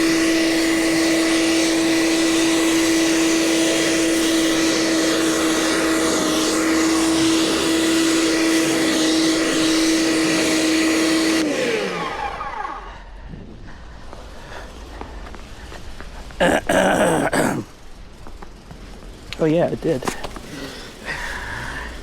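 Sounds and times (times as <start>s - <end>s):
snow blower whining: 0.0s - 22.0s.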